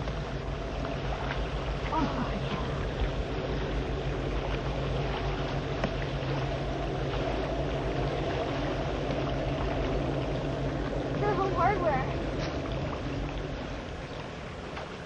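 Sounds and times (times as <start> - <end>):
boat engine droning: 0.0 - 15.0
water noise: 0.0 - 15.0
wind: 0.0 - 15.0.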